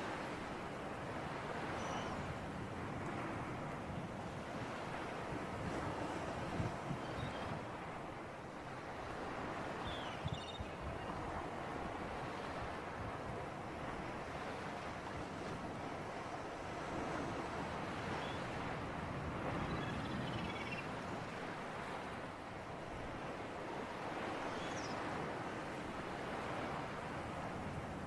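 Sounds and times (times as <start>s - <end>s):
sea breeze: 0.0s - 28.0s
surf washing: 0.0s - 28.0s.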